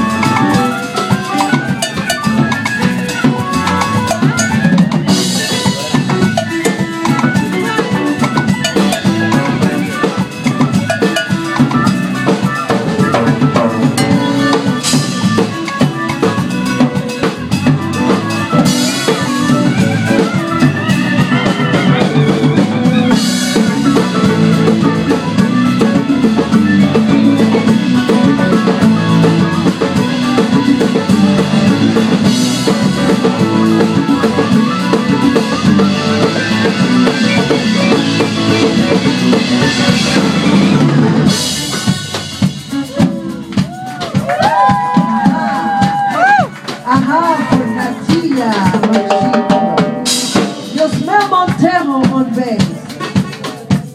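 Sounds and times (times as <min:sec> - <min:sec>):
drum kit beat: 0:00.0 - 0:53.9
electric guitar: 0:00.0 - 0:53.9
hand percussion: 0:00.0 - 0:53.9.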